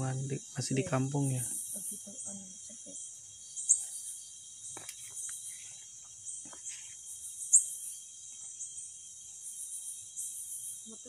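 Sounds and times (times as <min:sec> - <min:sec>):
crickets trilling: 0:00.0 - 0:11.0
loud cricket chirps: 0:00.0 - 0:11.0.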